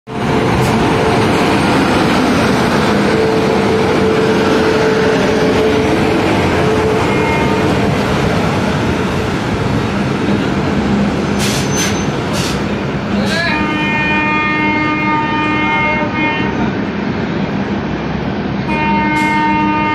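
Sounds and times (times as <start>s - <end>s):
train wheels rumbling on rails: 0.1s - 19.9s.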